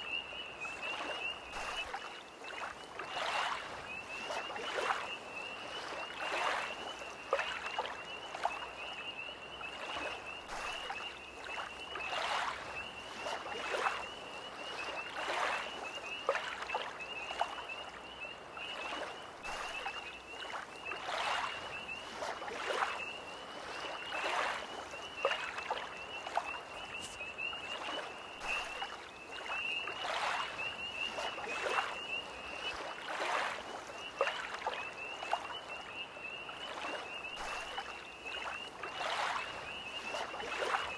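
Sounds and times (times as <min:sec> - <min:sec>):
tree frogs trilling: 0:00.0 - 0:40.9
waves lapping at shore: 0:00.0 - 0:40.9.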